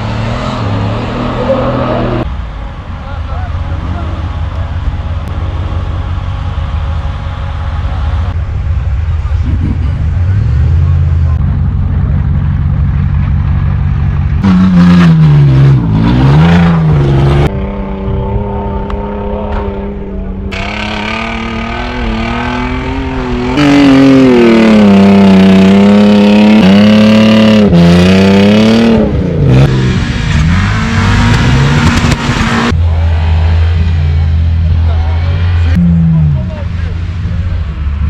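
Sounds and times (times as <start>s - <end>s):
vehicle engine revving: 0.0s - 2.3s, 3.4s - 38.0s.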